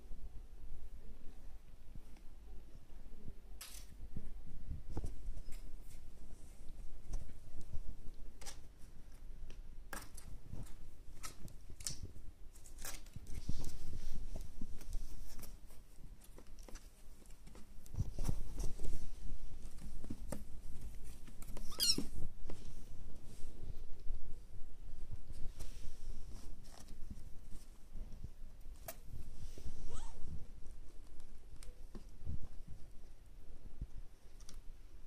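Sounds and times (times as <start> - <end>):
kittens scuffling and pattering paws: 1.3 - 35.0.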